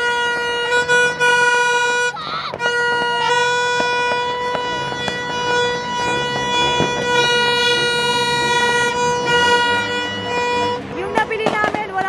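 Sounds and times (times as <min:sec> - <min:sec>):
party horn long steady note: 0:00.0 - 0:12.0.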